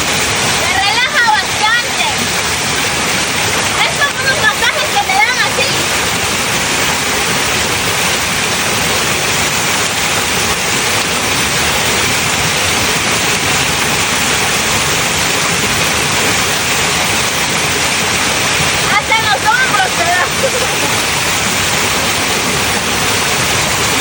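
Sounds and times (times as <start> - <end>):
small waterfall pouring: 0.0 - 24.0.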